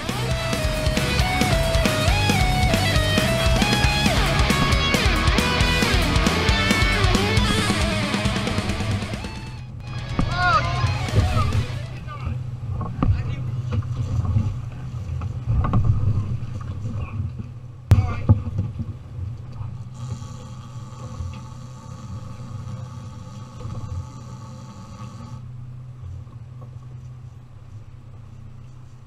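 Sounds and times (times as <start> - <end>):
outboard motors running: 0.0 - 29.0.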